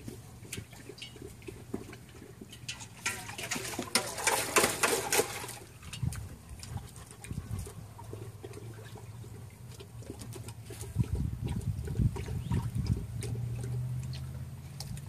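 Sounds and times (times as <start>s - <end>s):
dog lapping water: 0.0s - 15.0s.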